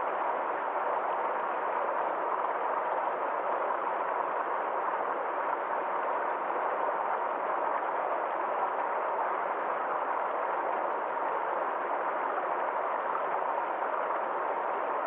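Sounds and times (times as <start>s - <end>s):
stream flowing: 0.1s - 15.0s.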